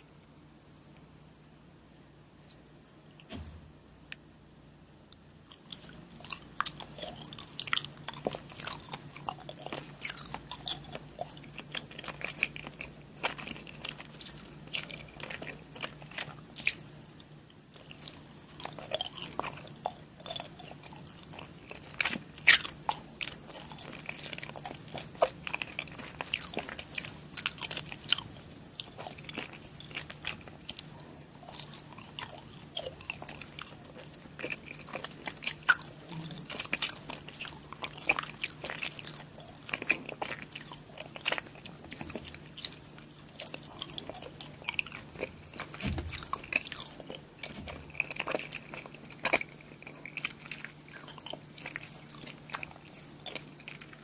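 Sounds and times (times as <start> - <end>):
faint low hum: 0.0 - 54.0
chewing crunchy candy bars: 5.1 - 54.0.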